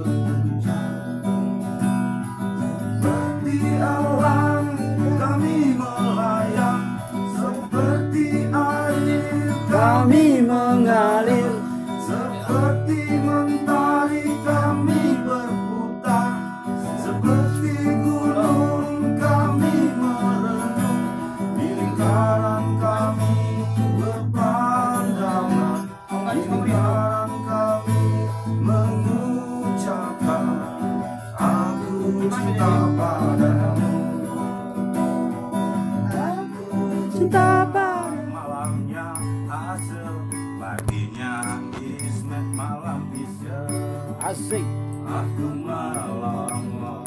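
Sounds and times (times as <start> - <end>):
man singing: 0.0 - 1.9, 2.6 - 47.0
acoustic guitar strumming: 0.0 - 47.0.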